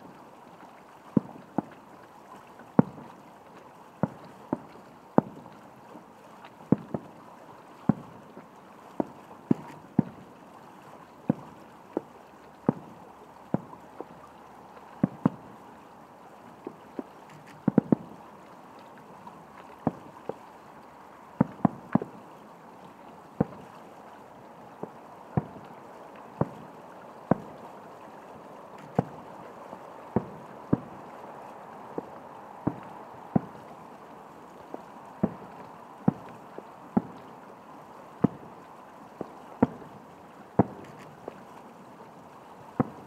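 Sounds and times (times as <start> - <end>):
steady hiss: 1.2 - 43.0.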